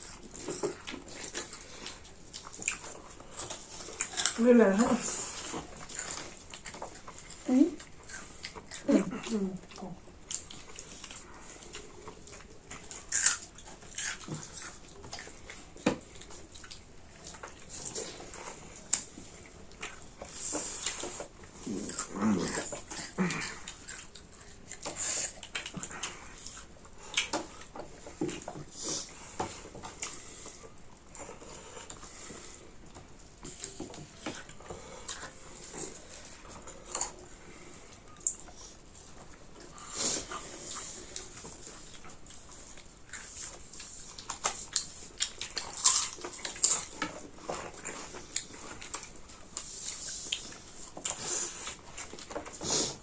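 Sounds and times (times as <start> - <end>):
chewing and mouth smacks: 0.0 - 53.0.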